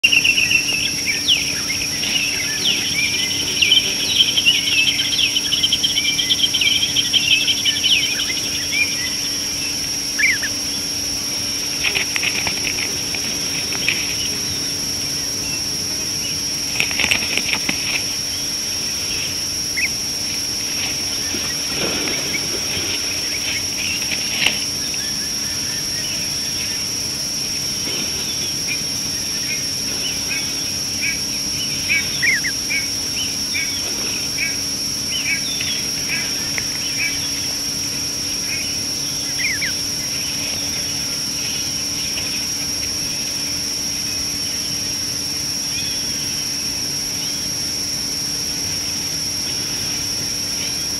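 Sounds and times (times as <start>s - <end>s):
birds chirping: 0.0s - 50.9s
high-pitched drone: 0.0s - 50.9s.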